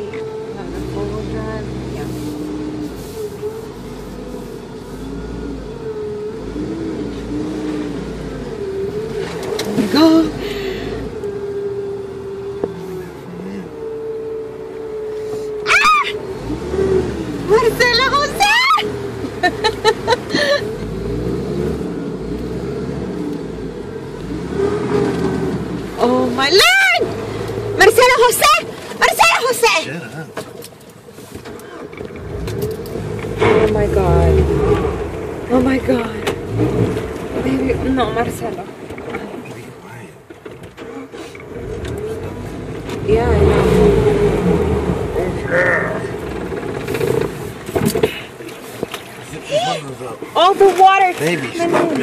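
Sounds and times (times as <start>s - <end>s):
car engine running at low speed: 0.0s - 52.0s.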